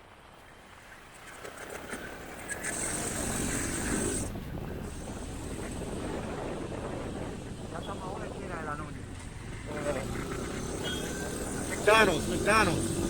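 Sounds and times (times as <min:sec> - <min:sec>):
motorcycle: 0:01.1 - 0:13.0
street traffic noise: 0:01.2 - 0:13.0.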